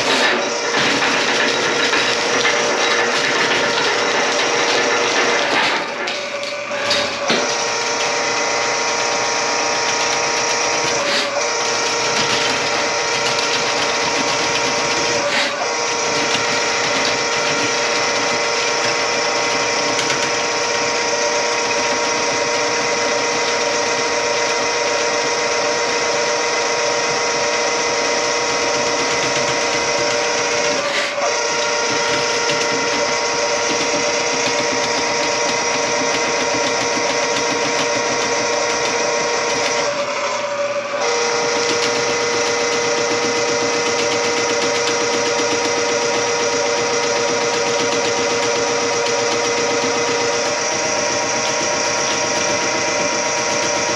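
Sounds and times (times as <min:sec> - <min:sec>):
drain-cleaning machine motor running: 0:00.0 - 0:53.9.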